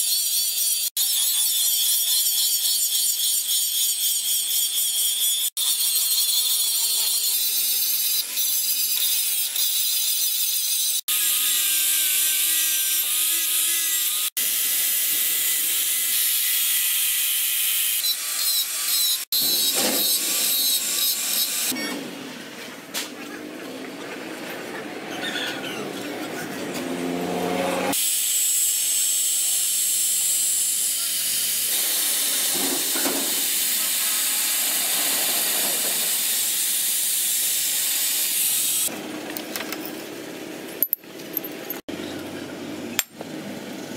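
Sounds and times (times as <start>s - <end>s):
angle grinder grinding steel: 0.0s - 21.8s, 25.6s - 39.0s.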